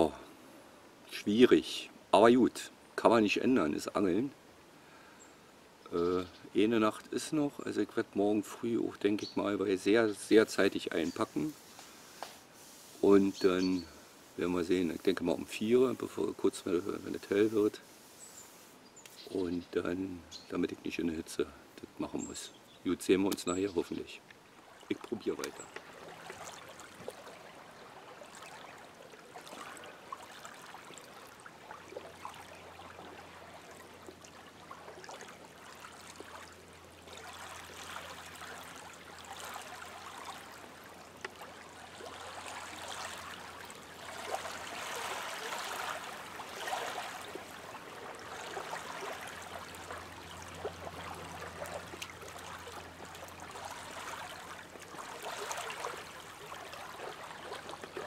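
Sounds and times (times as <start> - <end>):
waves lapping against shore: 8.2 - 58.0.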